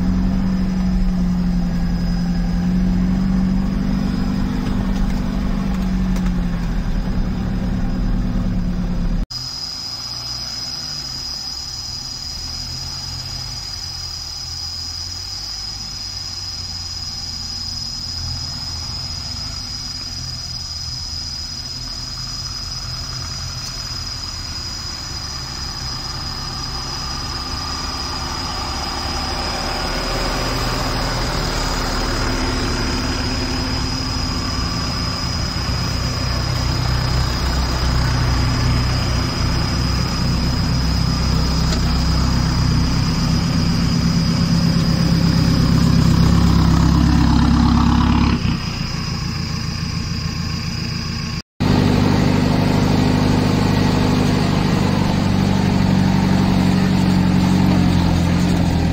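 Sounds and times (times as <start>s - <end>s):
jeep engine heard from cab: 0.0s - 58.9s
rumble of jeeps crawling: 0.0s - 58.9s.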